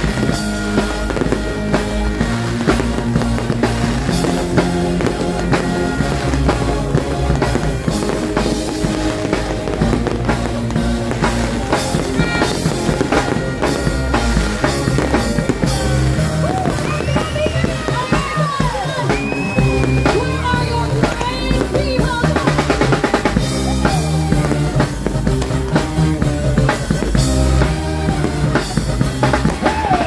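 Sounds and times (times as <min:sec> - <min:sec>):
fireworks bursting and crackling: 0:00.0 - 0:30.0
loud music with heavy drum beat: 0:00.0 - 0:30.0.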